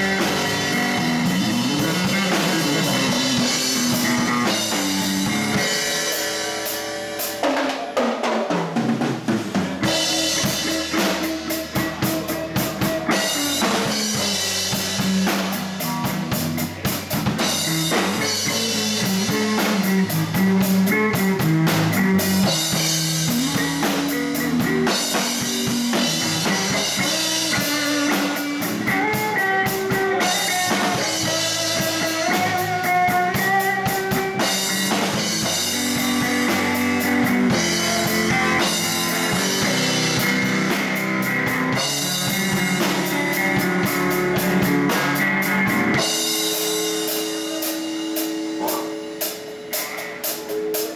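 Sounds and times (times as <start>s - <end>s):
electric bass: 0.0s - 7.4s, 8.9s - 50.7s
drum kit: 0.0s - 50.9s
electric guitar: 0.0s - 50.9s.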